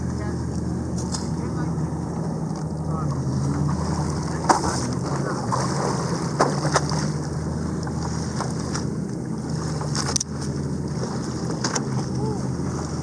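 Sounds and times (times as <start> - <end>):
boat motor hum: 0.0 - 13.0.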